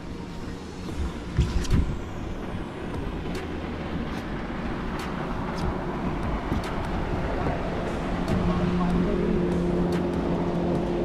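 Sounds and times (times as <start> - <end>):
wind noise: 0.2 - 11.0.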